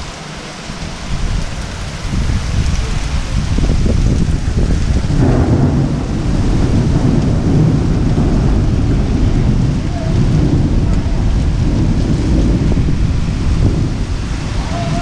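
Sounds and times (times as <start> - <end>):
hard rain: 0.0 - 15.0
thunder rumbling: 0.0 - 15.0.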